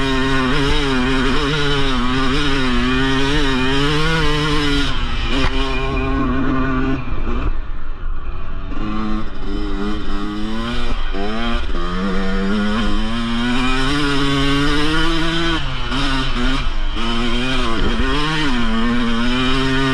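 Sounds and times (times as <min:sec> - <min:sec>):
two-stroke motorcycle engine revving: 0:00.0 - 0:19.9.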